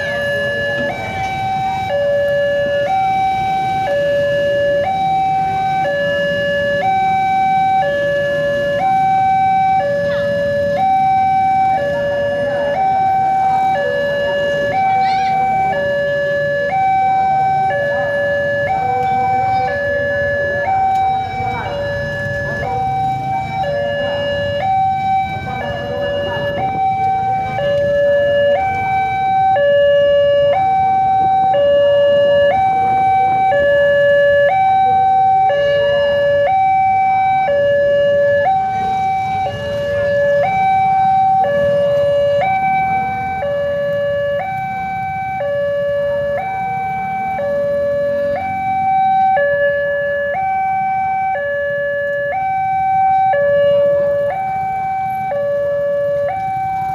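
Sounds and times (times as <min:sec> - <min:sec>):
level crossing two-tone alarm: 0:00.0 - 0:56.9
road traffic rumble: 0:00.0 - 0:56.9.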